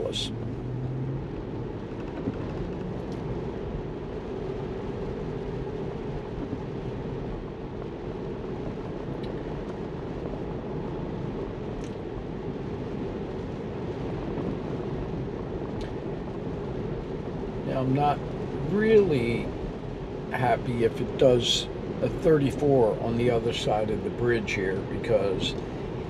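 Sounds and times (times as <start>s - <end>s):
tyre noise on wet road: 0.0s - 26.0s.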